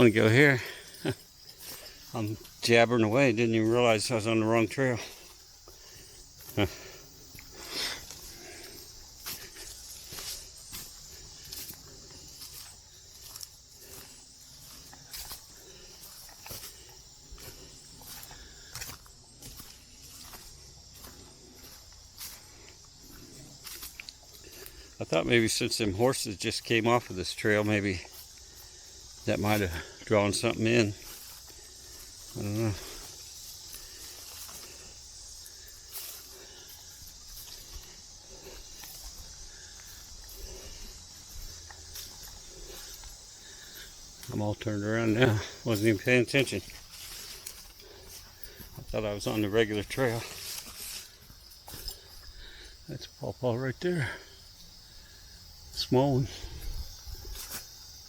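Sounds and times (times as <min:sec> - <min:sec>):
footsteps crunching on leaves: 0:00.0 - 0:53.2, 0:55.5 - 0:58.0
insects chorus: 0:00.0 - 0:58.0.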